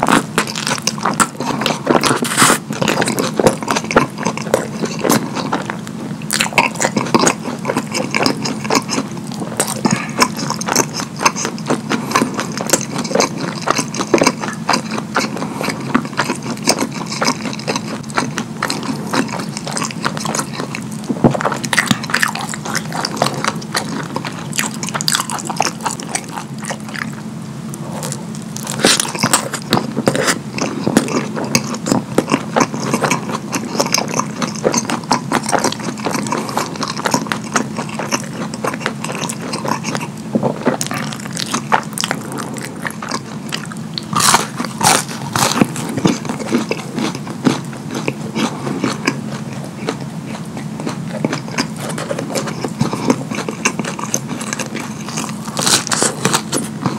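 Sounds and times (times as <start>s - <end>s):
sticky mouth clicks: 0.0s - 56.9s
wet chewing and lip smacking: 0.0s - 56.9s.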